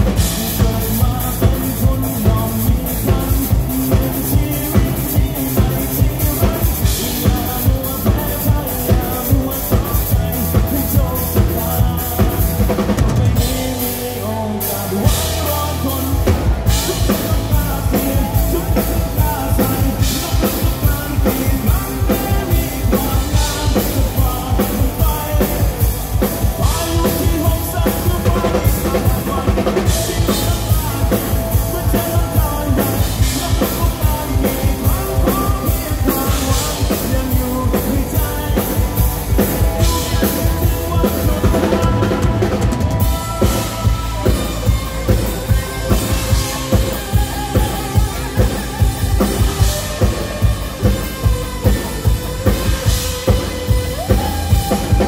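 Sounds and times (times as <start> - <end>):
drum kit beat: 0.0 - 55.0
rock band playing live: 0.0 - 55.0.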